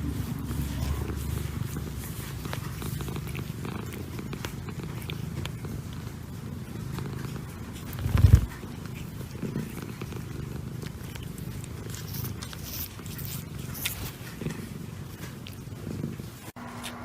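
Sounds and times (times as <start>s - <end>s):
cat purring: 0.0s - 16.6s.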